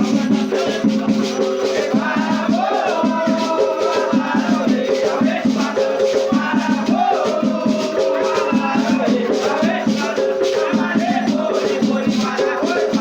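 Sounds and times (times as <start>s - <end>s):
drums beaten in steady rhythm: 0.0s - 13.0s
voices singing chants: 0.0s - 13.0s.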